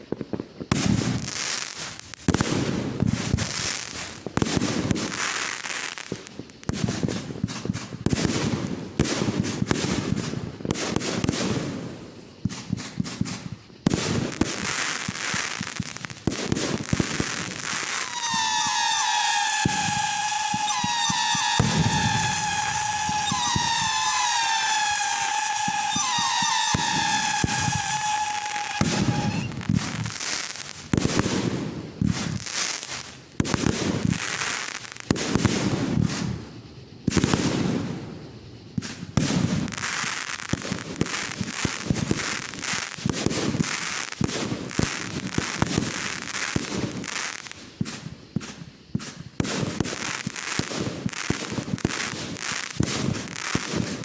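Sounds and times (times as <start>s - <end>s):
firework bangs and crackling: 0.0s - 54.0s
whistling firework shells: 0.0s - 54.0s.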